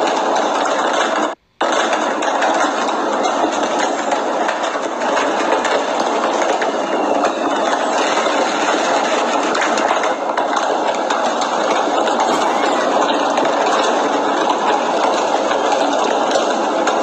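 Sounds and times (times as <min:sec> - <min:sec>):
firecrackers crackling: 0:00.1 - 0:16.8.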